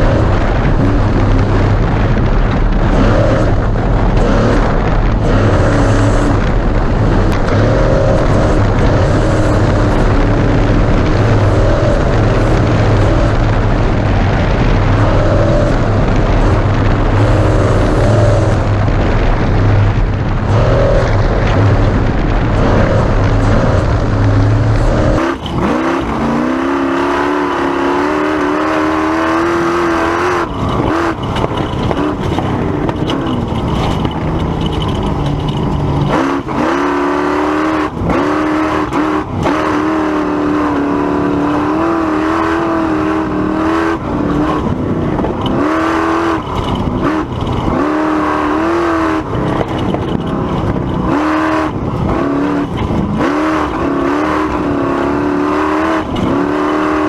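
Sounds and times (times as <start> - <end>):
heavy low rumble: 0.0 - 57.0
race truck engine revving: 0.0 - 57.0.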